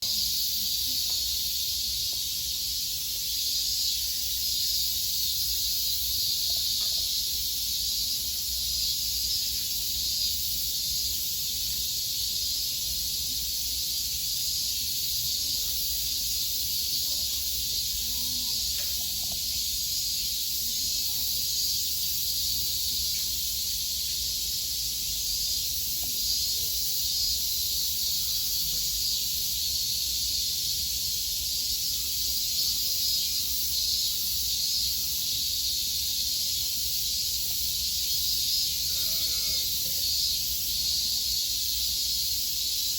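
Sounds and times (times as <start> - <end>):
cicadas chorus: 0.0 - 42.9.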